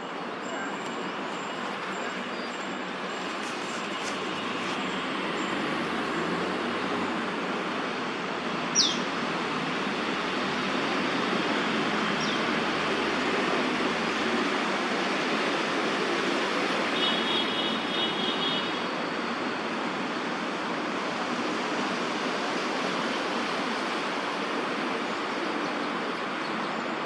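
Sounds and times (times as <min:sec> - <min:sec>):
city traffic hum: 0:00.0 - 0:27.0.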